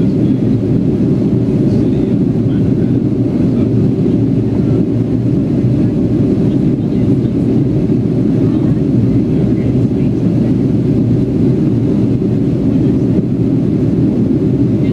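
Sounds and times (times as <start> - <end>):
jet engine cabin roar: 0.0 - 14.9.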